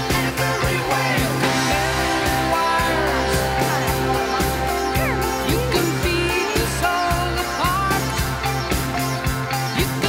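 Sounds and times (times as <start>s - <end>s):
pop-rock song with guitar and vocals: 0.0s - 10.0s.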